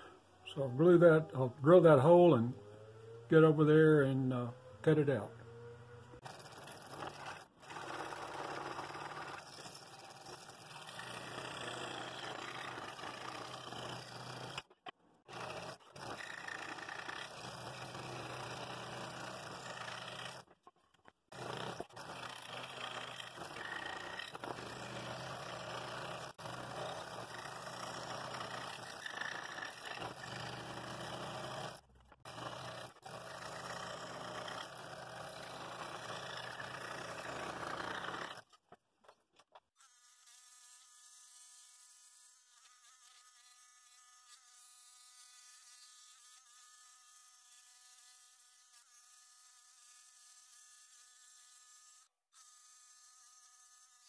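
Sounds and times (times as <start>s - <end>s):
scroll saw cutting wood: 0.8s - 38.7s, 39.5s - 54.0s.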